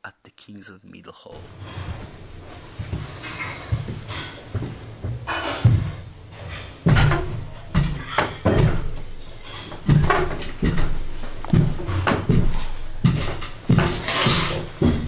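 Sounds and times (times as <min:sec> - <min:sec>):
heavy footsteps on stairs: 0:01.8 - 0:14.0, 0:14.7 - 0:15.0.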